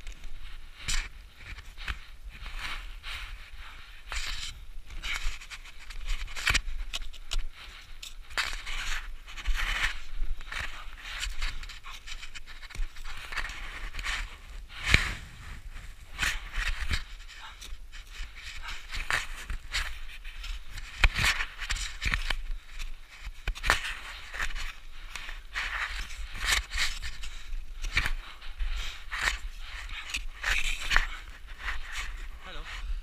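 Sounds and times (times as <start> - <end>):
boots and ice axe crunching snow: 0.0 - 33.0
climber panting: 0.0 - 33.0.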